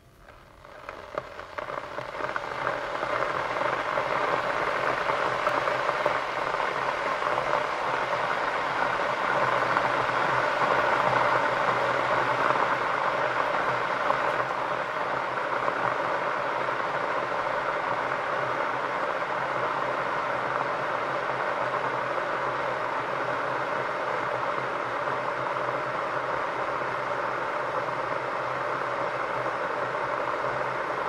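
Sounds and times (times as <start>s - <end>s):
electric kettle hissing: 0.0s - 31.0s.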